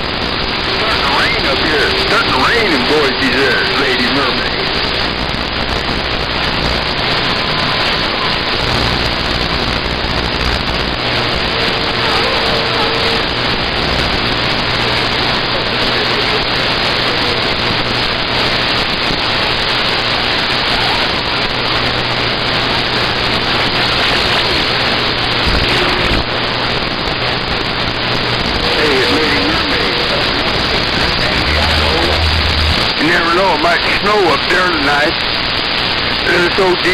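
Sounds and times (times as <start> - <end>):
faint garbled radio voices: 0.0 - 36.9
radio static hiss: 0.0 - 36.9.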